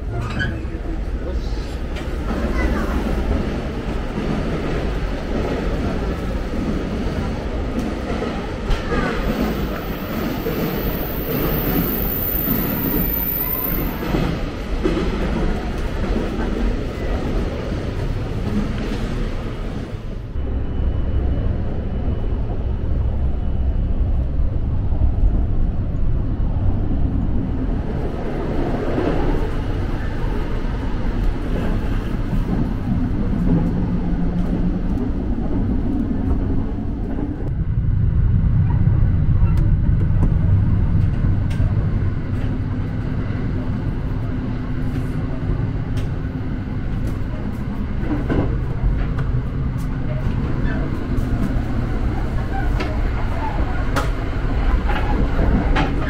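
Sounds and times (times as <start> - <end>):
train running low rumble: 0.0 - 56.0.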